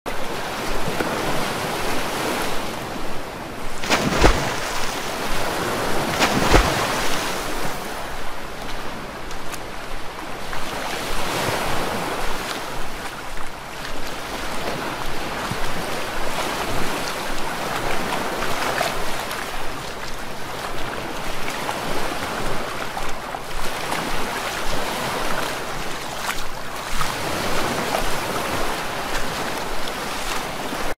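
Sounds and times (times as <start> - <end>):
water splashing and churning: 0.1 - 30.9.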